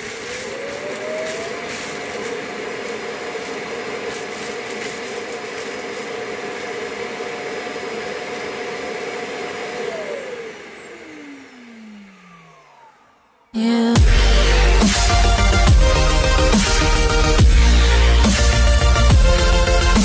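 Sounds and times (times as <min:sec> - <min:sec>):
suction motor whining: 0:00.0 - 0:20.0.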